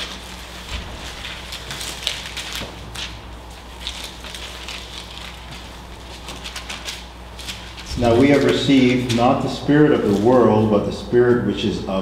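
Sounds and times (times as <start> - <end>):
pages rustling: 0.0 - 10.5
low steady hum: 0.0 - 12.0.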